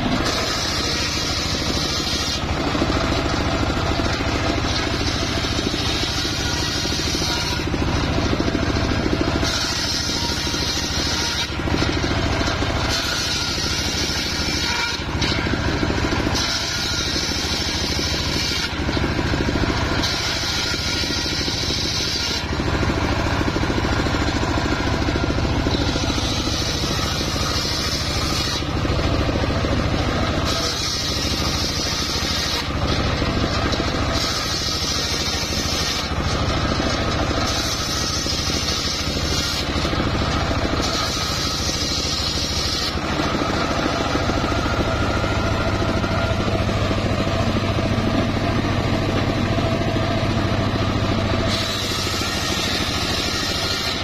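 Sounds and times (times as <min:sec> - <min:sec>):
saw bench engine drone: 0:00.0 - 0:54.0
saw blade cutting wood: 0:00.0 - 0:54.0.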